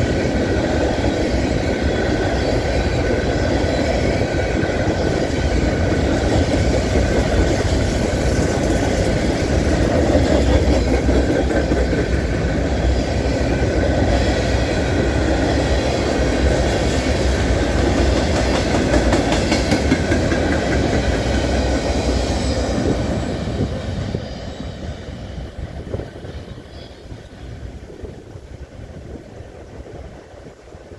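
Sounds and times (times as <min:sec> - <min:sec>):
steel wheels clattering on rails: 0:00.0 - 0:27.2
freight train rumbling past: 0:00.0 - 0:30.9.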